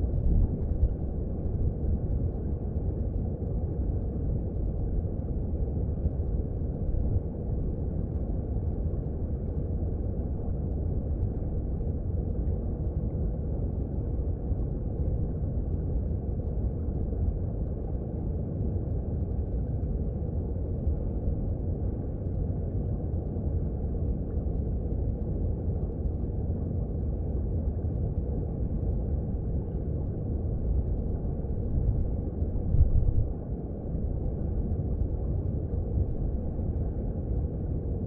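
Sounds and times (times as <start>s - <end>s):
muffled underwater water rush: 0.0s - 38.0s.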